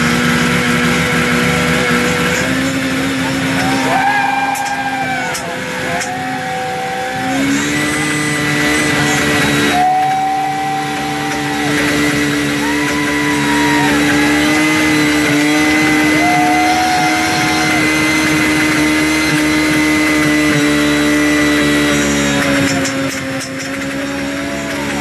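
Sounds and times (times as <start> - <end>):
snowmobile engine whining: 0.0 - 25.0.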